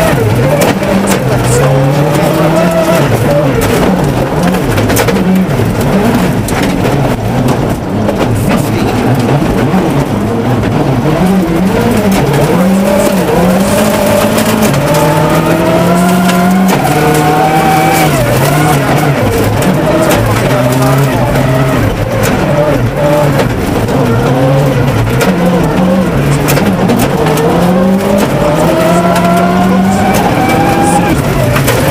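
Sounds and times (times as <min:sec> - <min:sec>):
gravel striking car underside: 0:00.0 - 0:31.9
rally car engine revving: 0:00.0 - 0:31.9.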